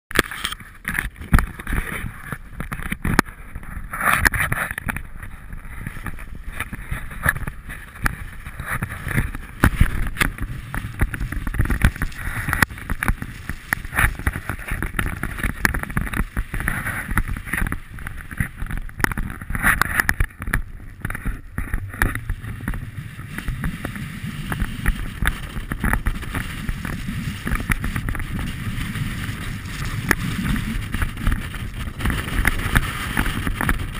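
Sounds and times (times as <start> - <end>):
sliding over snow: 0.2 - 33.9
wind rushing over microphone: 0.4 - 33.9.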